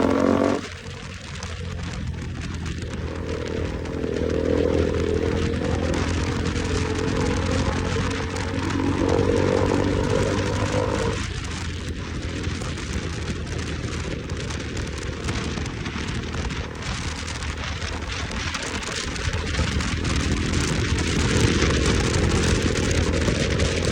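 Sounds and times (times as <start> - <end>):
motorcycle engine hum: 0.0 - 23.9
wind rush on microphone: 0.0 - 23.9.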